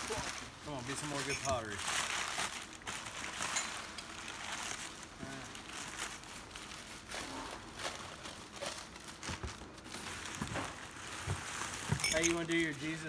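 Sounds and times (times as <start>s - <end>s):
packing paper crinkling: 0.0s - 13.0s.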